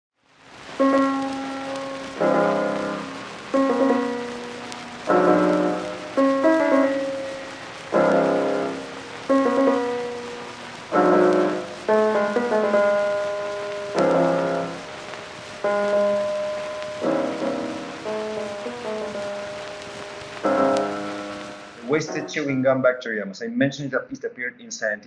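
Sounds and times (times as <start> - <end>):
piano chords: 0.6 - 23.3.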